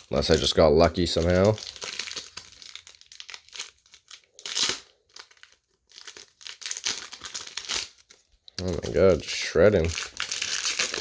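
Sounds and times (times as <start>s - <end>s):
wrapper crinkling: 0.0s - 11.0s
wrapper tearing: 0.0s - 11.0s.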